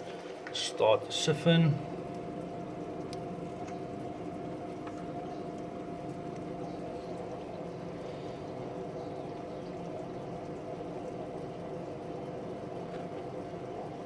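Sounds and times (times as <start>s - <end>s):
steady low hum: 0.0s - 14.0s
water trickling through a tube: 0.0s - 14.0s.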